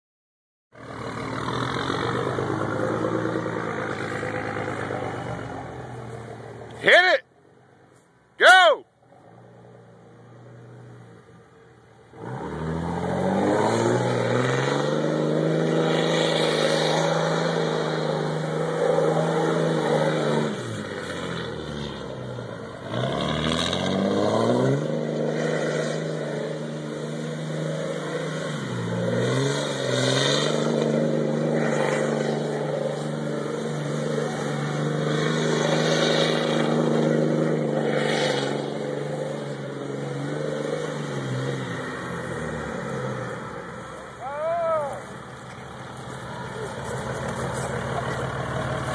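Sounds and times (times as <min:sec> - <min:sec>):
diesel engine revving: 0:00.7 - 0:06.9, 0:09.1 - 0:48.9.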